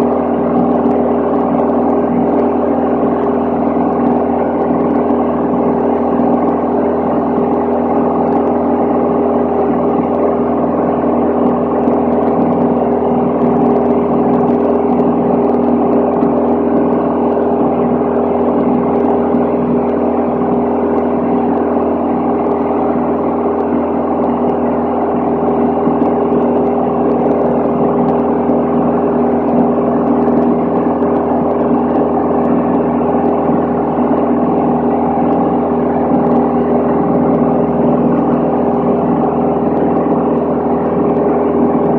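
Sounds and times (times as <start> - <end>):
aircraft engine droning in cabin: 0.0 - 41.9.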